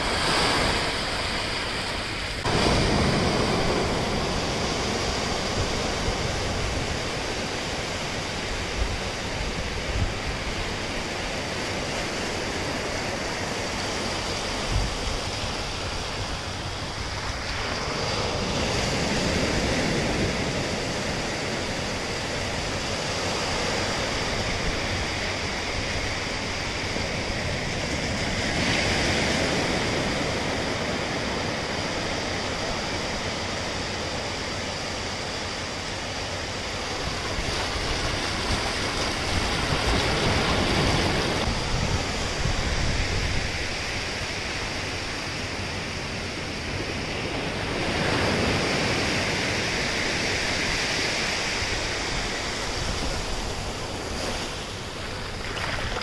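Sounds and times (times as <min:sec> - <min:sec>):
surf washing on beach: 0:00.0 - 0:56.0.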